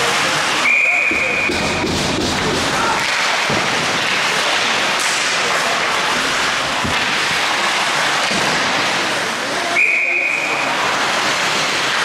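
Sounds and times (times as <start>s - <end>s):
skates scraping ice: 0.0s - 12.0s.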